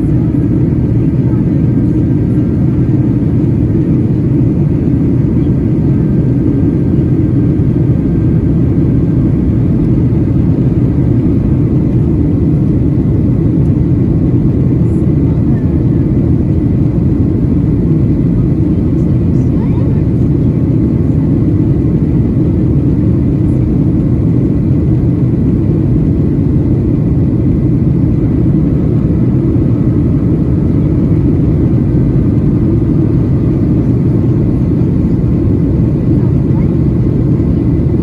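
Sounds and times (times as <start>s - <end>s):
airflow over fuselage: 0.0s - 38.0s
jet engines rumbling: 0.0s - 38.0s.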